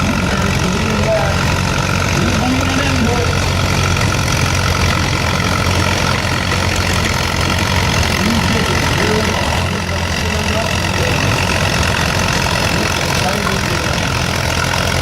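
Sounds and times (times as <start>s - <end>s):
heavy tractor engine running: 0.0s - 15.0s.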